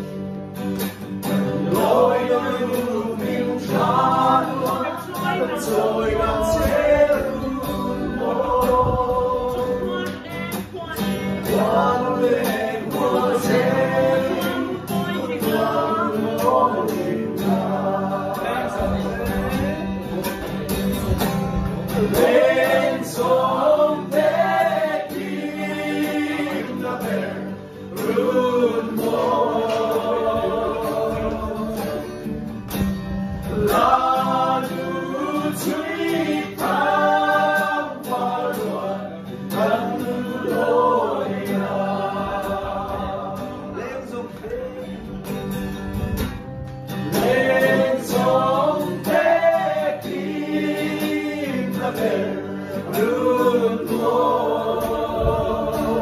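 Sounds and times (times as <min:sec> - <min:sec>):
group singing: 0:00.0 - 0:56.0
strummed acoustic guitar: 0:00.0 - 0:56.0.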